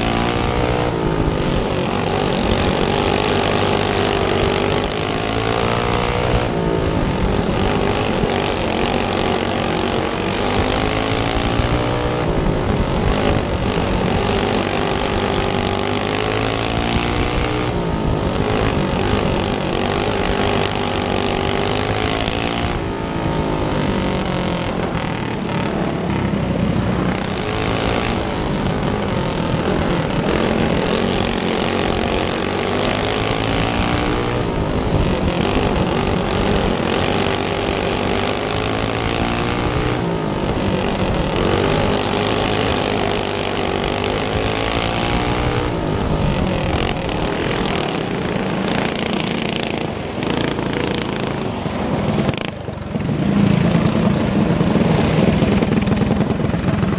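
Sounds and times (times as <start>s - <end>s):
go kart engine revving: 0.0s - 56.9s
wind rushing on camera: 0.0s - 56.9s.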